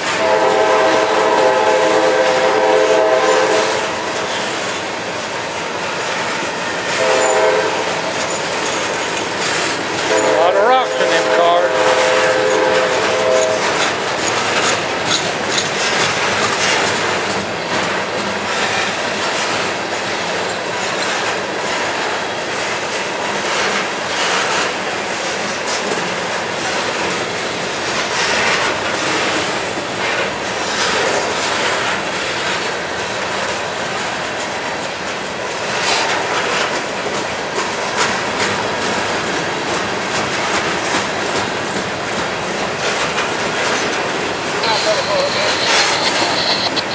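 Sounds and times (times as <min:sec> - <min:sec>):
train cars rumbling past: 0:00.0 - 0:46.9
wheels clattering on track: 0:00.0 - 0:46.9.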